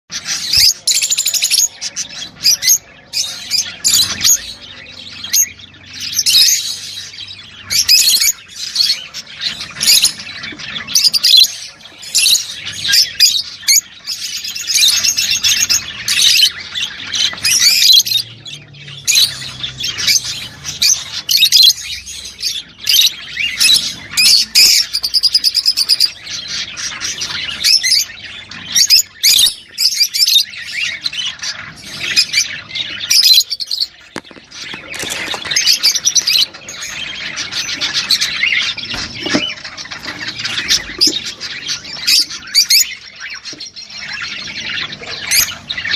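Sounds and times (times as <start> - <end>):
lovebirds chirping and squawking: 0.1 - 45.9.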